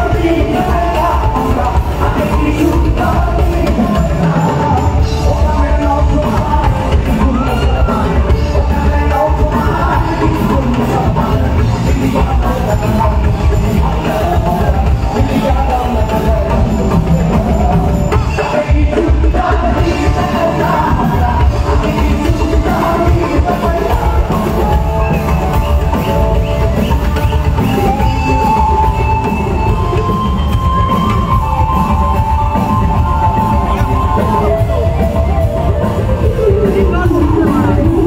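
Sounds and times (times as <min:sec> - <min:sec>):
live rock band playing: 0:00.0 - 0:38.0
person singing: 0:00.0 - 0:38.0.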